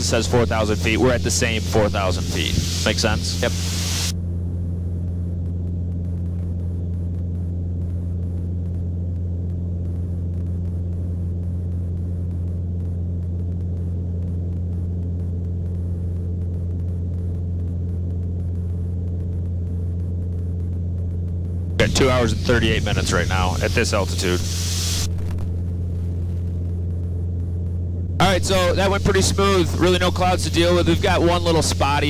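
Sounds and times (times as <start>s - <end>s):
aircraft engine and propeller droning: 0.0s - 17.6s, 18.2s - 32.0s.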